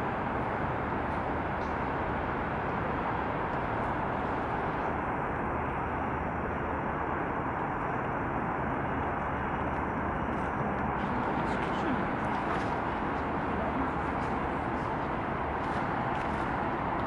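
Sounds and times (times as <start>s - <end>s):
distant city traffic hum: 0.0s - 17.0s.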